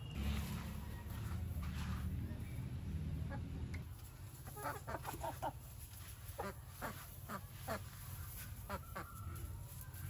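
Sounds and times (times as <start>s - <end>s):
chickens clucking: 0.6s - 10.0s.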